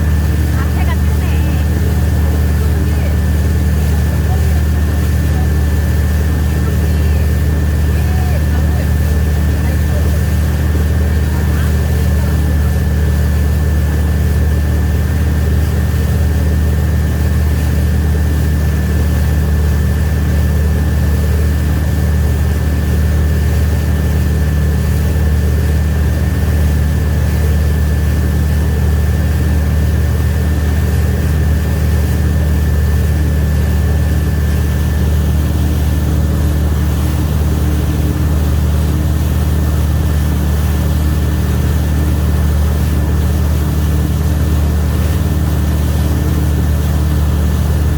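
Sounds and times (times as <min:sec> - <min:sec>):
boat engine droning: 0:00.0 - 0:47.9
thin steady whine: 0:00.0 - 0:47.9.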